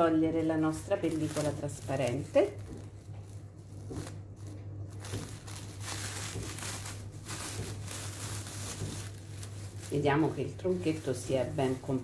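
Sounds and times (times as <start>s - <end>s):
cling film crinkling: 0.0s - 12.0s
low steady hum: 0.0s - 12.0s.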